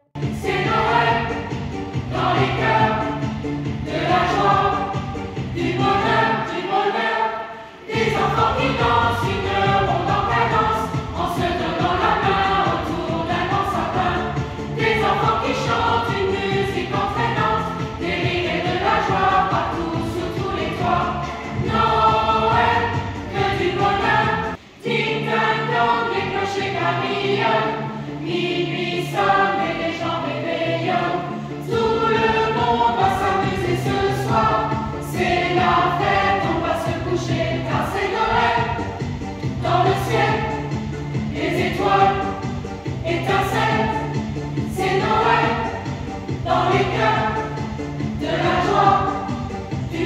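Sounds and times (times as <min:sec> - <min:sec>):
children's choir singing: 0:00.2 - 0:50.0.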